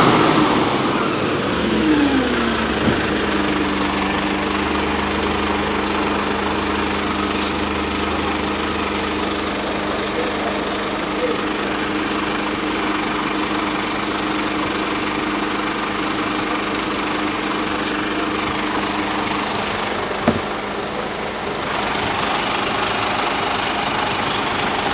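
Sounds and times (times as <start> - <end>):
truck diesel engine idling: 0.0 - 24.9.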